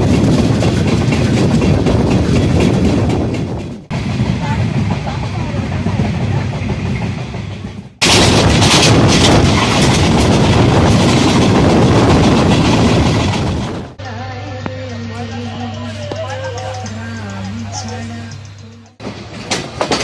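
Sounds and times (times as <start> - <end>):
train rumbling and rattling: 0.0 - 14.0, 14.7 - 20.0.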